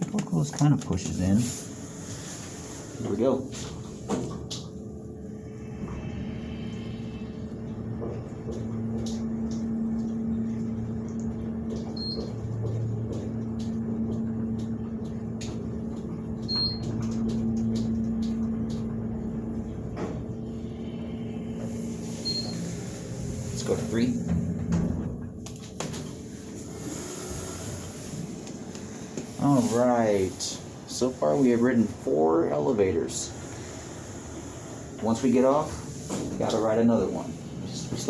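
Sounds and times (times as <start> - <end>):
elevator hum: 0.0 - 38.0.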